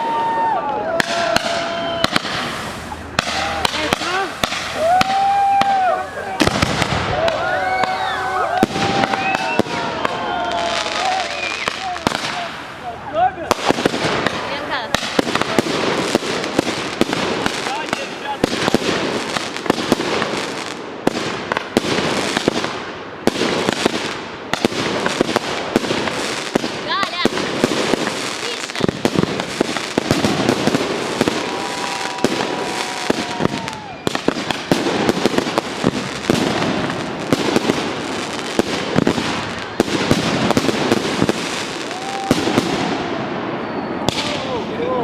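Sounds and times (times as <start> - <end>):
fireworks bangs: 0.0 - 45.0.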